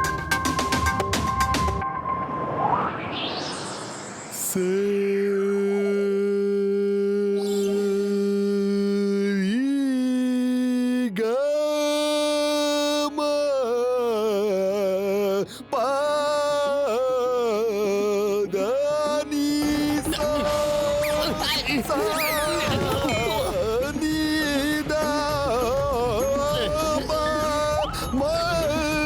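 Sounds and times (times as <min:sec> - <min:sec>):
person singing wordless melody: 0:04.4 - 0:29.0.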